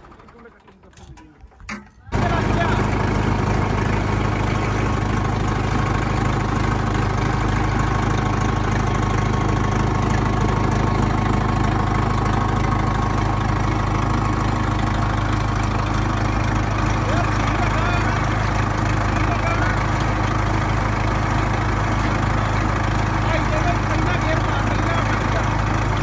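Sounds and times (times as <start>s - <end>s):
tractor diesel engine idling: 0.0s - 1.5s, 2.1s - 26.0s.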